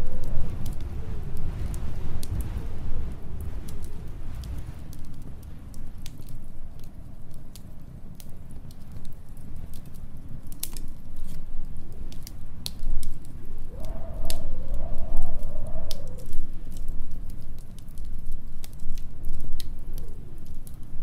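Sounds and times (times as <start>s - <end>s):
howling storm wind: 0.0s - 21.0s
wood fire crackling and popping: 0.0s - 21.0s.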